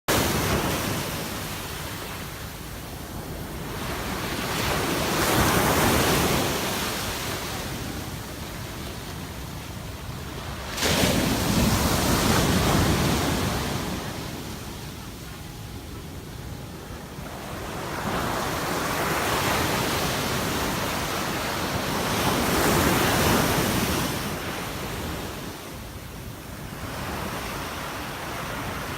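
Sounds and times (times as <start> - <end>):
sea waves washing onto shore: 0.1 - 28.9.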